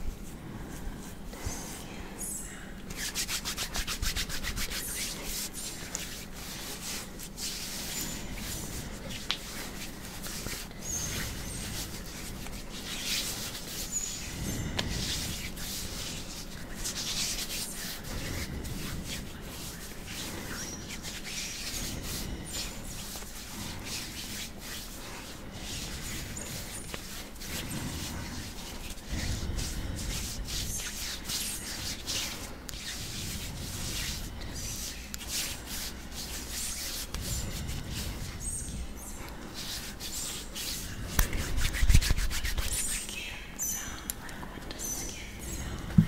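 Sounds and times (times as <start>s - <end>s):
hands rubbing bare skin: 0.0s - 46.0s.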